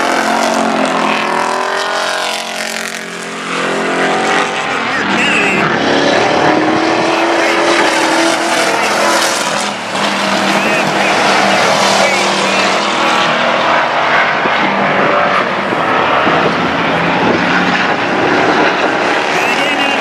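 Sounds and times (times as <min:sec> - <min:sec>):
race truck engines running hard: 0:00.0 - 0:20.0.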